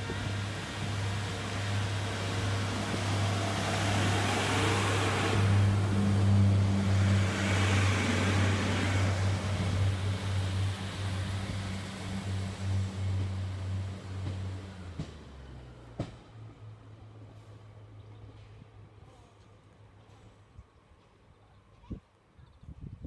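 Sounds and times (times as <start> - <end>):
diesel train engines droning: 0.0 - 21.3
rush of passing train coaches: 0.0 - 21.3.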